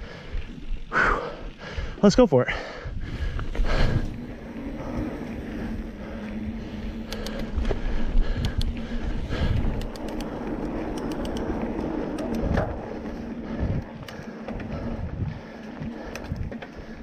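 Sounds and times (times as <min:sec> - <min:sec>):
bike tyres rumbling on dirt: 0:00.0 - 0:17.0
wind on microphone: 0:02.8 - 0:17.0
bike clicks and rattles: 0:02.9 - 0:17.0.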